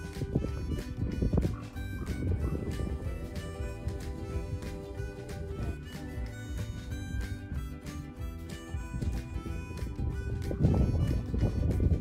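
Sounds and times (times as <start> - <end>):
held instrument notes: 0.0 - 12.0
steady percussive beat: 0.0 - 12.0.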